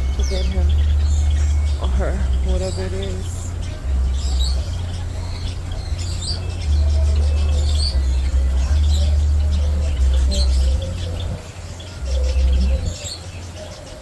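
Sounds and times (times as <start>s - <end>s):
low rumble: 0.0s - 13.0s
birds chirping: 0.0s - 14.0s.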